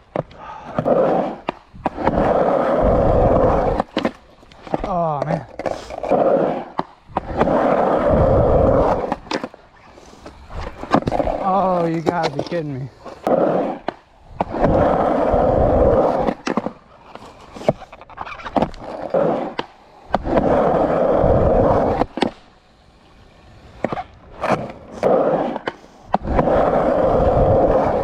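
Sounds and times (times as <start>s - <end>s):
skateboard wheels rolling: 0.0s - 28.0s.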